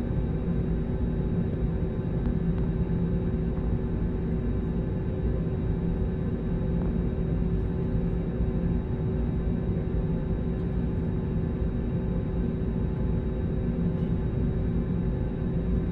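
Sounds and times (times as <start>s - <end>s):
airliner cabin engine drone: 0.0s - 15.9s.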